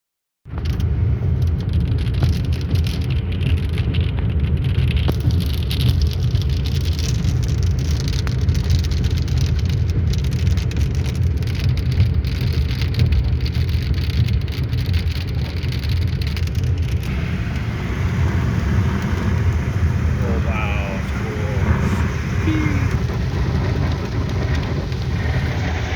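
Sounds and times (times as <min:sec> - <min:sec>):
car engine and road noise: 0:00.5 - 0:25.9
raindrops striking car: 0:00.5 - 0:25.9.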